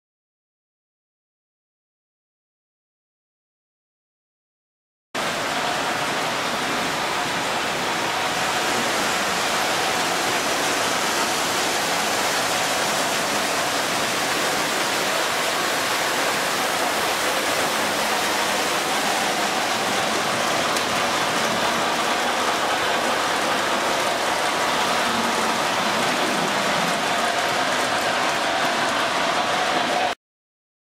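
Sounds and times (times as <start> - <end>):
model train wheels rolling on rails: 5.3 - 30.2.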